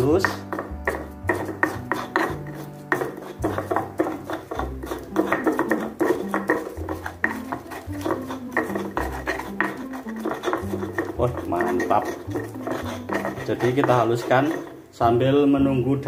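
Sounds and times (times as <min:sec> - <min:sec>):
pestle grinding in stone mortar: 0:00.0 - 0:15.1.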